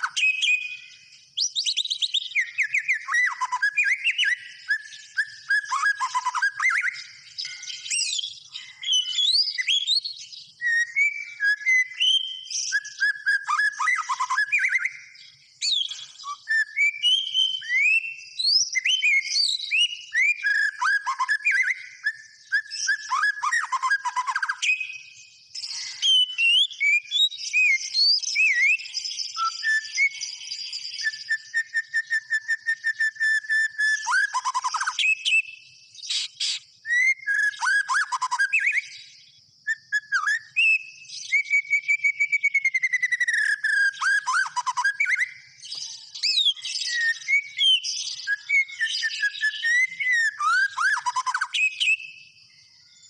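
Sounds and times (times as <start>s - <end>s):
bird singing whistles and trills: 0.0s - 53.0s.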